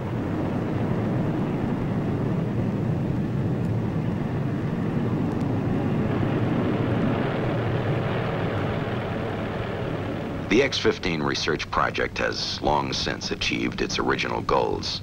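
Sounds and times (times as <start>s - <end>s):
aircraft engine rush: 0.0s - 15.0s.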